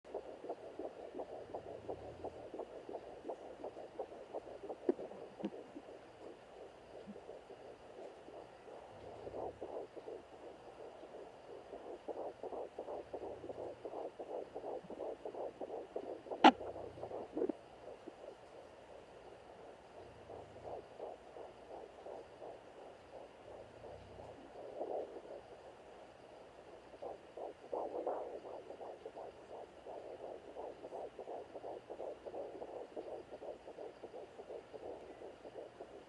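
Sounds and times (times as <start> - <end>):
fetal heartbeat whoosh: 0.0 - 36.0.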